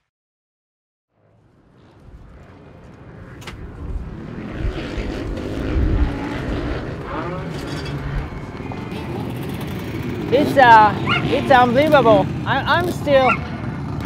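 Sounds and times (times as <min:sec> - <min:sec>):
engine running: 0:01.4 - 0:14.0.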